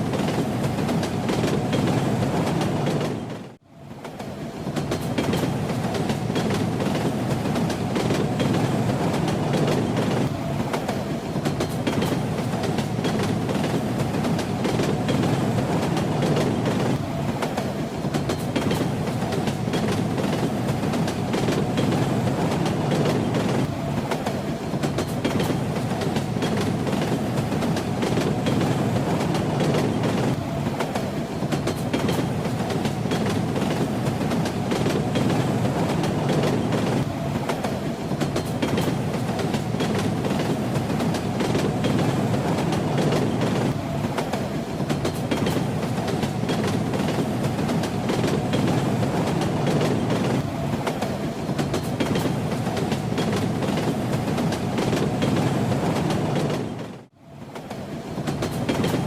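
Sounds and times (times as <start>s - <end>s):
moving train rumble: 0.0s - 59.0s
train wheels knocking on rail joints: 4.7s - 56.9s, 57.7s - 59.0s.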